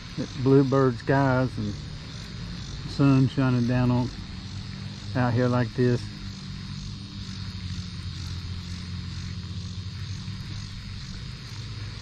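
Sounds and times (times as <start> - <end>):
low mechanical drone: 0.0 - 12.0.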